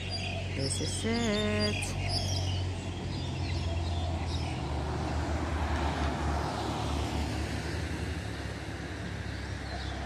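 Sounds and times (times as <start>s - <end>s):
low traffic rumble: 0.0s - 10.0s
vehicle passing: 0.7s - 10.0s.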